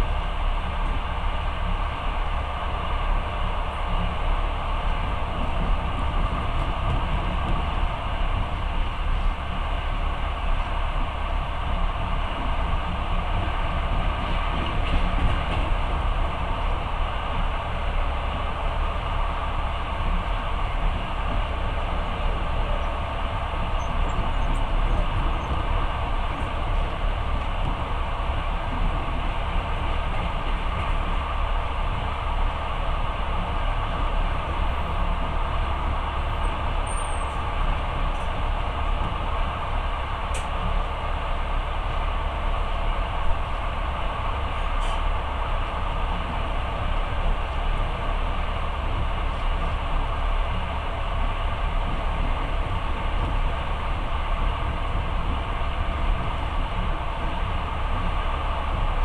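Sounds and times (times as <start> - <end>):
train running rumble and hiss: 0.0 - 59.0.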